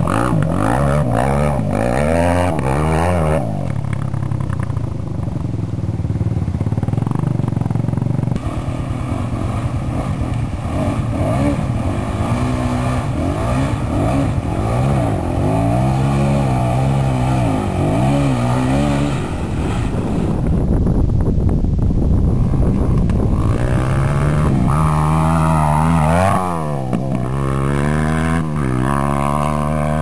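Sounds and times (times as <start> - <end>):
dirt bike engine revving: 0.0 - 4.9, 6.0 - 20.7, 22.2 - 30.0.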